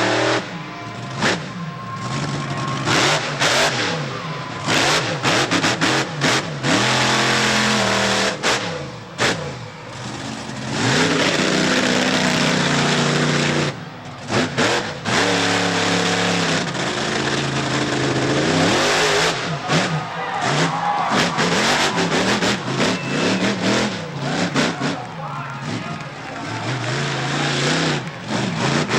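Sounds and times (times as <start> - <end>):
truck engine revving hard: 0.0 - 28.9.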